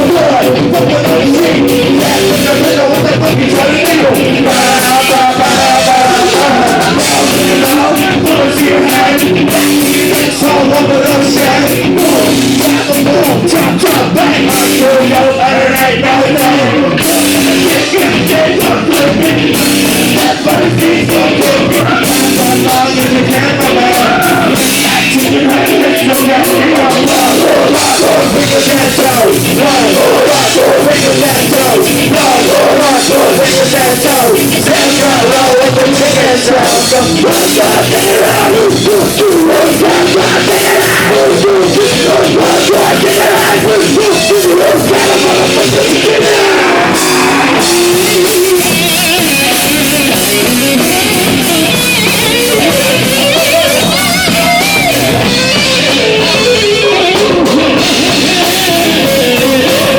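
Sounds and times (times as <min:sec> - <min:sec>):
person shouting or singing: 0:00.0 - 0:19.3, 0:20.2 - 0:48.8
distorted electric guitar: 0:00.0 - 0:59.9
drum kit: 0:00.0 - 0:59.9.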